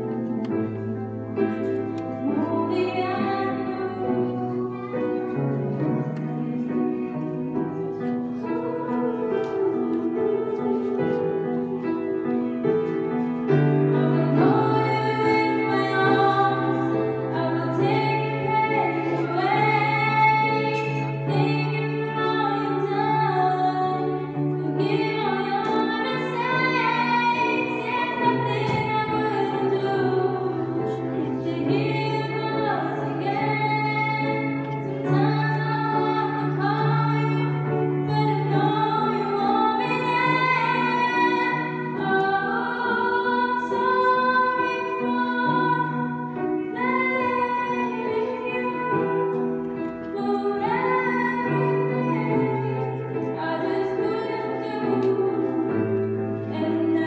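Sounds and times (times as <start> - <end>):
piano accompaniment: 0.0 - 57.0
woman singing into a microphone: 2.2 - 5.2, 5.9 - 57.0.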